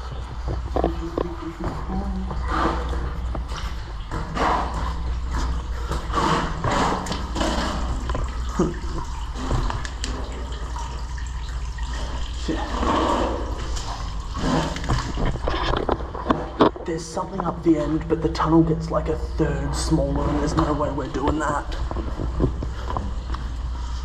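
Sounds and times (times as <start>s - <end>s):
water splashing in drain tunnel: 0.0s - 24.0s.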